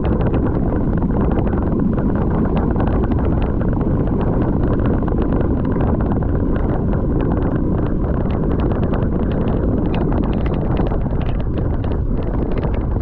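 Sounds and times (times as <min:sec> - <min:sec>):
small clicks and rattles: 0:00.0 - 0:13.0
wind buffeting microphone: 0:00.0 - 0:13.0.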